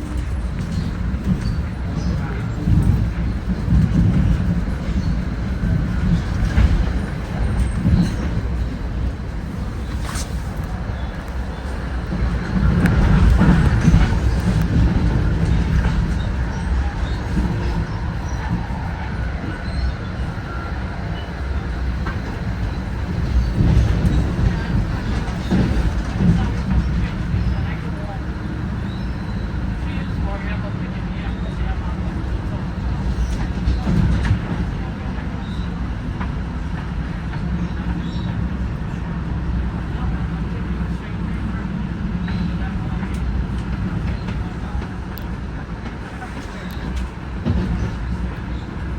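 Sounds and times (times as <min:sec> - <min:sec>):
train rumbling past: 0:00.0 - 0:48.9.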